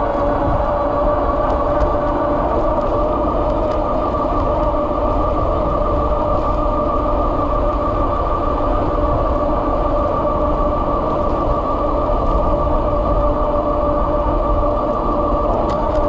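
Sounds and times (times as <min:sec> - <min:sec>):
wind and tyre rumble: 0:00.0 - 0:16.0.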